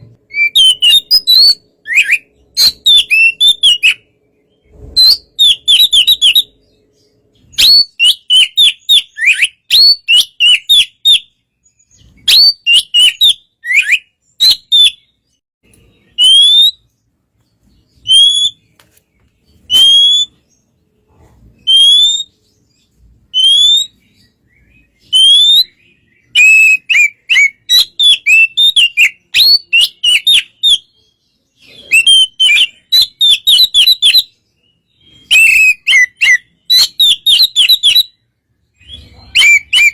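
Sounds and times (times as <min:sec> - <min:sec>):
bird singing whistled phrases: 0:00.2 - 0:04.1, 0:04.7 - 0:06.8, 0:07.4 - 0:16.9, 0:17.9 - 0:18.7, 0:19.6 - 0:20.4, 0:21.6 - 0:22.5, 0:23.3 - 0:39.9.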